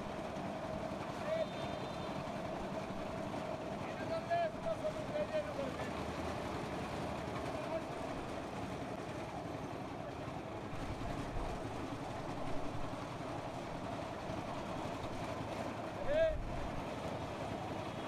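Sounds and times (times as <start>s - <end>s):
concrete mixer running: 1.8s - 18.0s.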